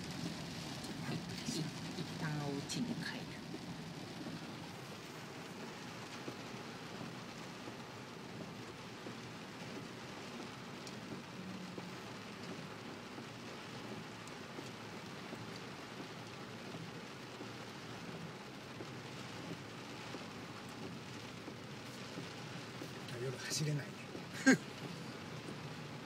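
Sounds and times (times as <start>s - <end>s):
rain pattering on a car: 0.0s - 26.0s.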